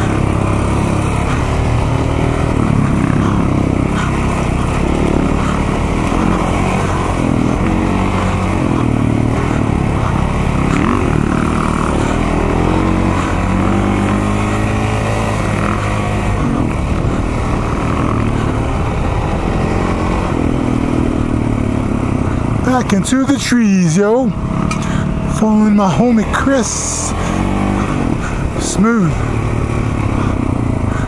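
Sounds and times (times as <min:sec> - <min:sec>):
off-road motorcycle engine revving: 0:00.0 - 0:31.0.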